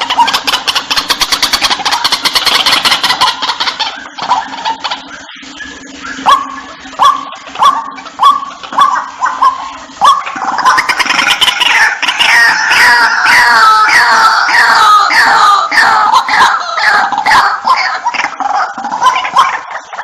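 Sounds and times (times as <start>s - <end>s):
waterhen calling: 0.0s - 20.0s.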